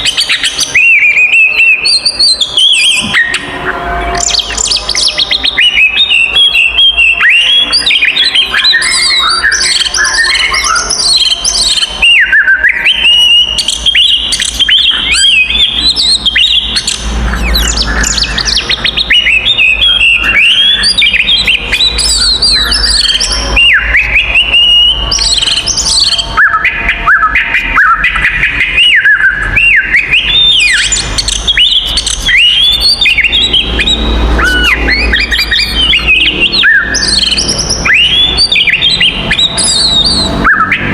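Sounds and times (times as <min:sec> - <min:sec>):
songbird singing varied whistles: 0:00.0 - 0:40.9.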